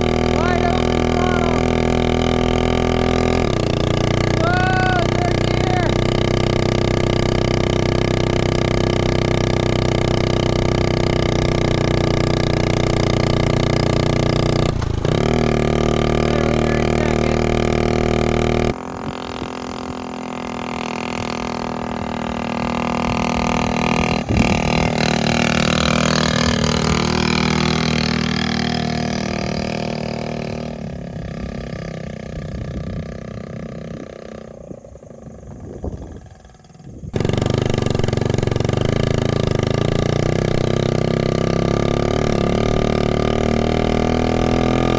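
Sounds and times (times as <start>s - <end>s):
mini bike engine running: 0.0s - 44.9s.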